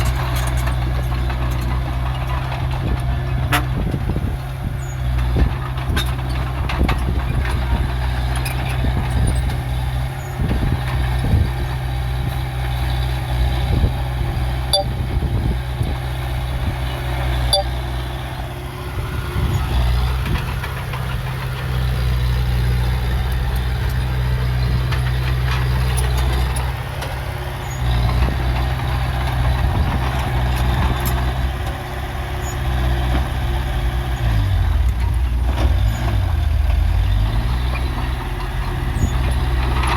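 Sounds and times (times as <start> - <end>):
diesel machinery rumbling: 0.0 - 39.9.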